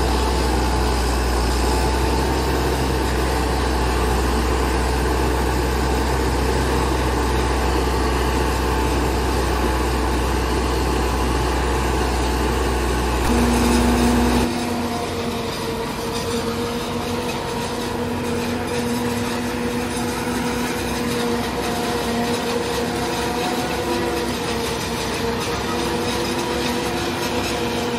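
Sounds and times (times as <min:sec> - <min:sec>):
forage harvester machine hum: 0:00.0 - 0:27.9.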